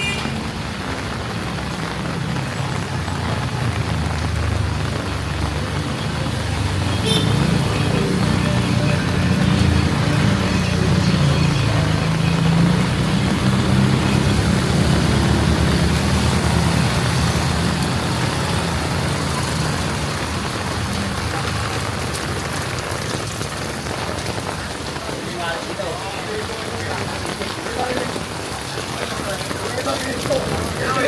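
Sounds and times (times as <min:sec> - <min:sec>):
heavy rain hissing: 0:00.0 - 0:31.0.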